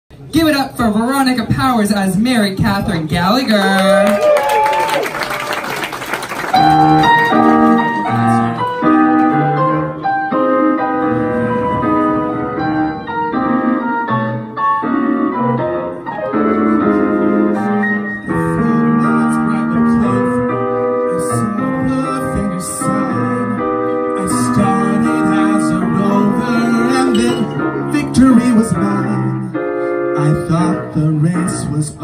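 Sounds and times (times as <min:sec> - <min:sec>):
piano music: 0:05.2 - 0:32.0.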